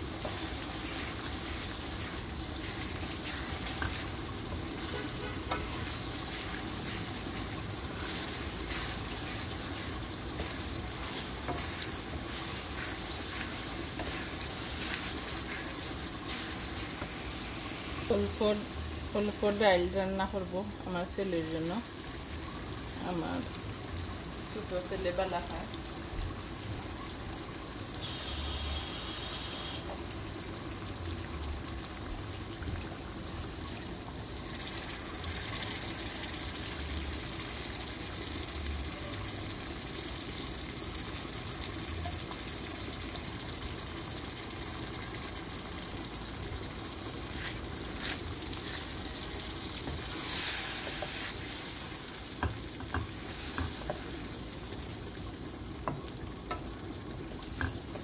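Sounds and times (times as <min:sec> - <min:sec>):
lentils sizzling in oil: 0:00.0 - 0:58.0.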